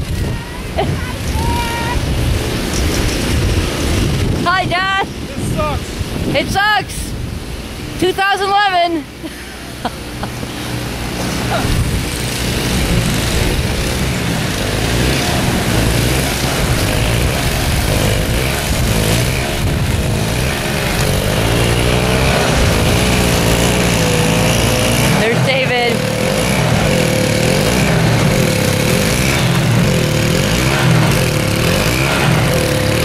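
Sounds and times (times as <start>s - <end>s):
engine running: 0.0s - 33.0s.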